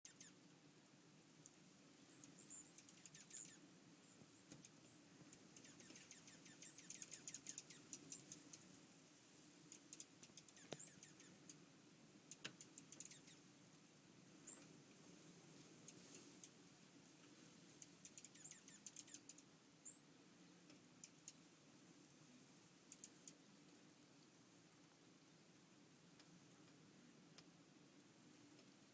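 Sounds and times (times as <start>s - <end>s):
small birds chirping: 0.1s - 0.5s, 1.4s - 24.3s.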